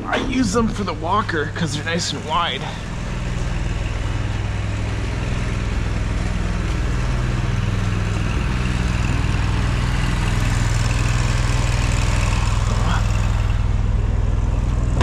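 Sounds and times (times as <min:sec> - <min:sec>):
riding mower engine running: 0:00.0 - 0:15.0.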